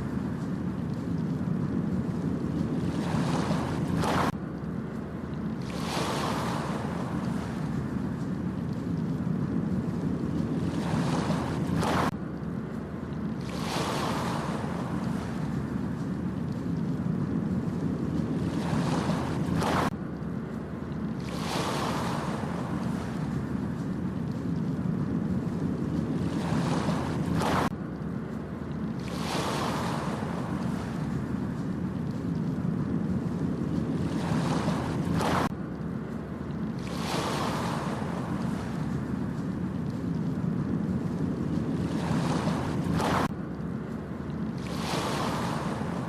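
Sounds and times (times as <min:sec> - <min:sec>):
waves breaking on beach: 0:00.0 - 0:04.4, 0:05.4 - 0:20.0, 0:20.6 - 0:27.8, 0:28.6 - 0:46.0
low rumble of wind and sea: 0:00.0 - 0:46.0.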